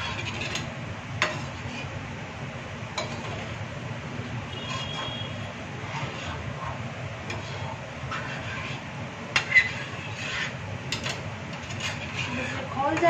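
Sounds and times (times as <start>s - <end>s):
spoon stirring and scraping pot: 0.0s - 2.0s, 2.9s - 13.0s.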